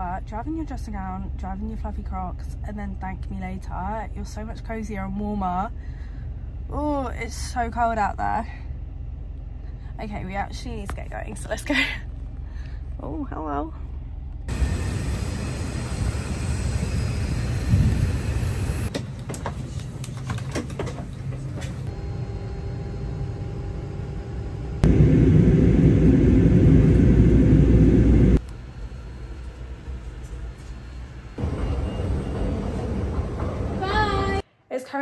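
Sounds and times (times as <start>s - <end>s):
vehicle rumble: 0.0s - 34.4s.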